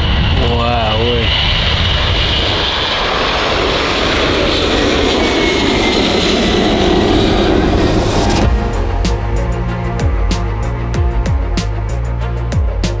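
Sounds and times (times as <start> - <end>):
jet engines roaring: 0.0 - 12.6.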